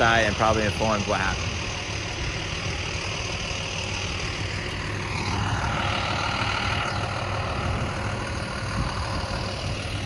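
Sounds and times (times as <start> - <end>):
higher whine: 0.0 - 10.0
truck engine running: 0.0 - 10.0.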